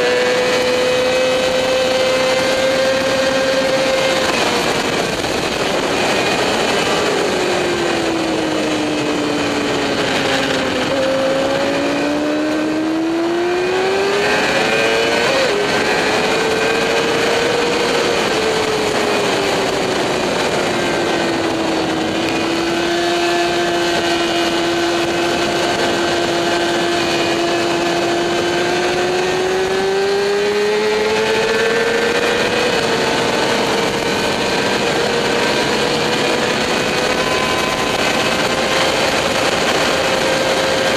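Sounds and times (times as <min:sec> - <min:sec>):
motorcycle engine at speed: 0:00.0 - 0:40.9
rushing wind noise: 0:00.0 - 0:40.9.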